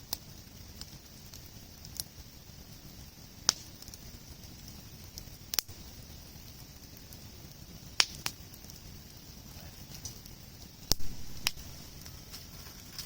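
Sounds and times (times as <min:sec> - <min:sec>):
campfire logs popping: 0:00.0 - 0:13.0
fire hissing: 0:00.0 - 0:13.0.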